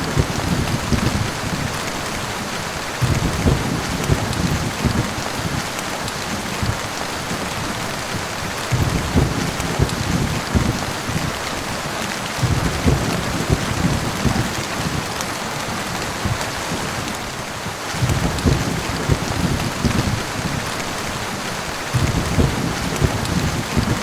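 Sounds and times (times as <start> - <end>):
heavy rain falling: 0.0 - 24.0
thunder rumbling: 0.0 - 24.0.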